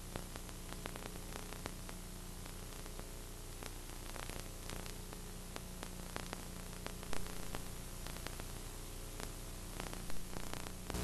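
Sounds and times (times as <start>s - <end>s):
low mains hum: 0.0s - 11.0s
tape hiss: 0.0s - 11.0s.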